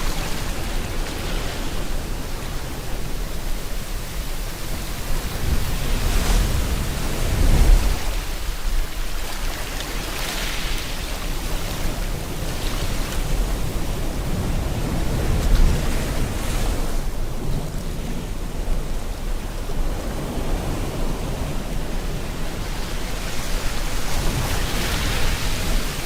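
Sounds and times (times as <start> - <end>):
ocean waves breaking on shore: 0.0 - 26.0
rain hiss: 0.0 - 26.0.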